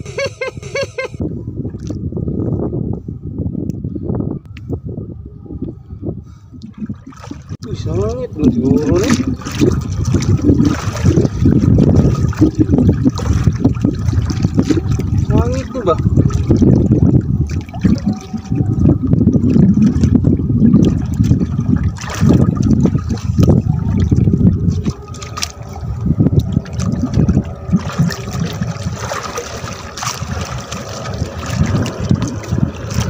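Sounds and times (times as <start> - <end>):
water lapping against boat: 1.7 - 2.0, 6.4 - 33.0.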